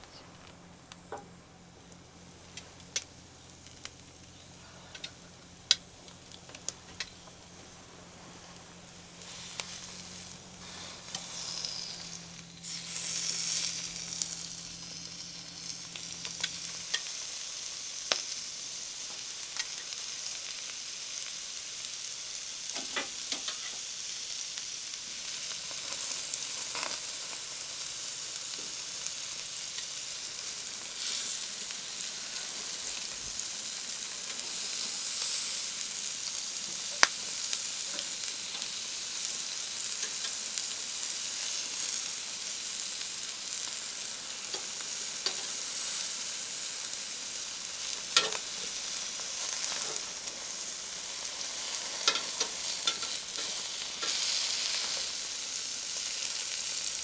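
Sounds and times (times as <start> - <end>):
food sizzling in a hot pan: 1.0 - 57.0.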